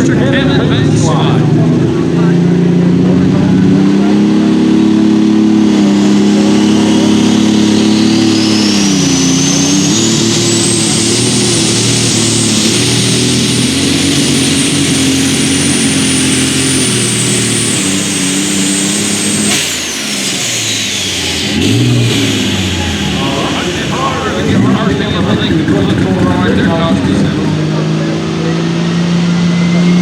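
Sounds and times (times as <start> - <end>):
diesel engine under load: 0.0 - 30.0
high turbo whine: 0.0 - 30.0.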